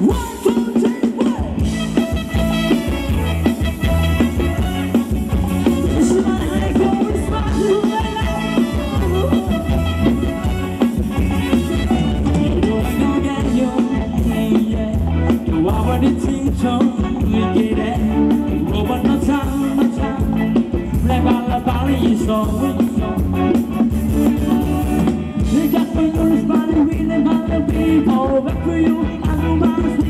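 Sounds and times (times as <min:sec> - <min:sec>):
person singing: 0:00.0 - 0:23.8, 0:24.6 - 0:30.0
band music through speakers: 0:00.0 - 0:30.0
drum kit beat: 0:00.0 - 0:30.0.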